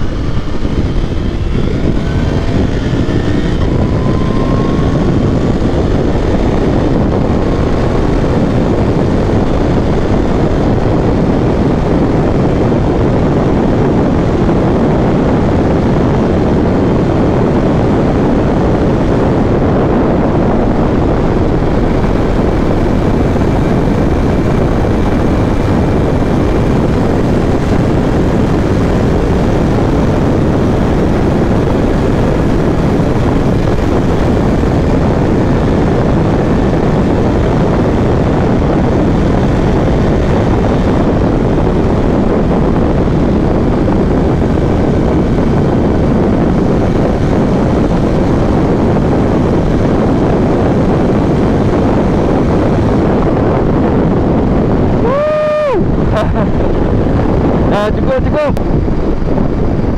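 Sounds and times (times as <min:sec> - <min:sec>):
motorcycle engine cruising: 0:00.0 - 0:55.0
wind rush on microphone: 0:00.0 - 0:59.9.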